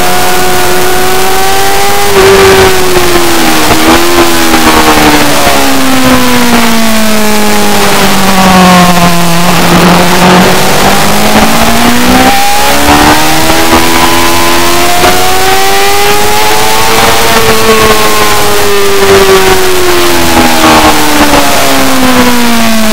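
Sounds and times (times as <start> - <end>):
racing motorcycle engine revving: 0.0 - 22.9.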